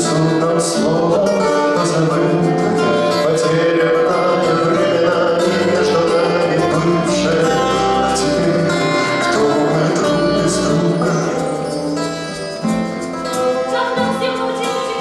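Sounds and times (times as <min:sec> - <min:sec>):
acoustic guitar: 0:00.0 - 0:15.0
person singing: 0:00.0 - 0:15.0.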